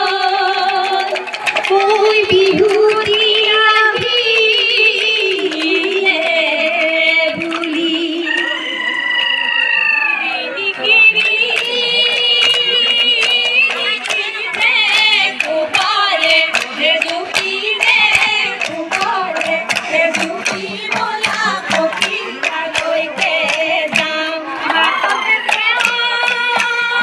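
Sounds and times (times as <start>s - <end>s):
women singing together: 0.0s - 8.6s, 10.2s - 27.0s.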